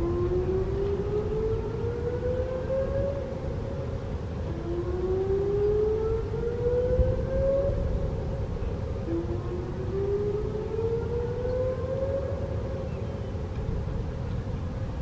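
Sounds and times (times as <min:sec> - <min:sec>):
distant whooping siren: 0:00.0 - 0:14.9
wind rumble on microphone: 0:00.0 - 0:15.0.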